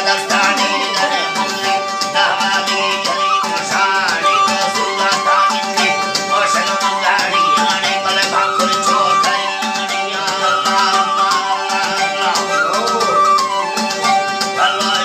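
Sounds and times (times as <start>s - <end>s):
reed flute melody: 0.0s - 15.0s.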